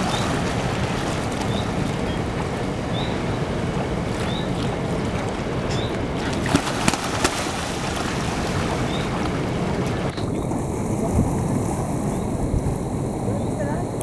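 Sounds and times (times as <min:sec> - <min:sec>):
sharp water splashes: 0:00.0 - 0:12.2
moving water: 0:00.0 - 0:14.0
wind rumble on microphone: 0:00.0 - 0:14.0.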